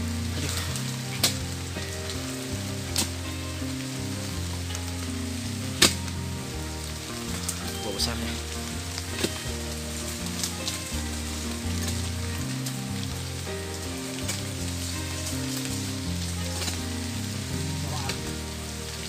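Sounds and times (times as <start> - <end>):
music of low held notes: 0.0 - 19.0
rain hiss: 0.0 - 19.0.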